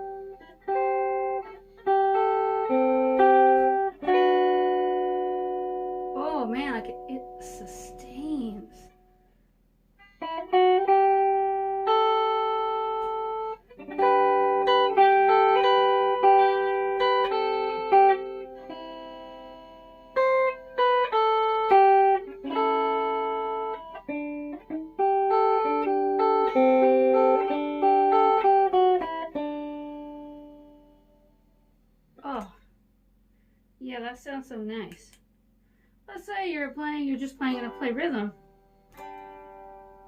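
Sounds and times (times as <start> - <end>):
electric ukulele played melodically: 0.0 - 8.8, 10.1 - 31.2, 37.4 - 40.0.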